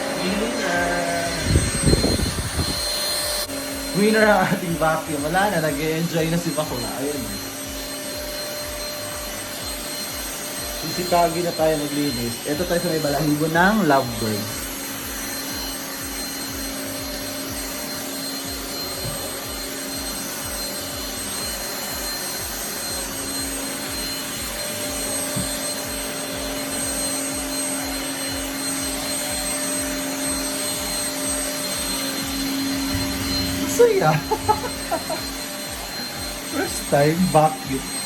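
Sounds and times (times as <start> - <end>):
handheld vacuum cleaner whine: 0.0 - 38.0.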